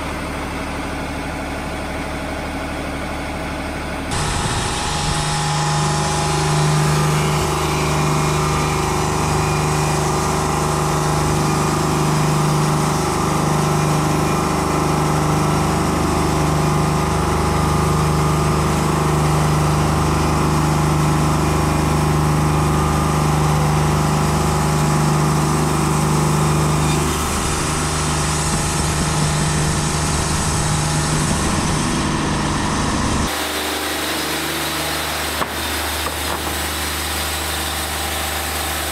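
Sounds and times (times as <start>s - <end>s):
engine hum: 0.0s - 38.9s
bandsaw blade cutting log: 4.1s - 15.8s, 18.4s - 32.0s, 33.1s - 38.9s.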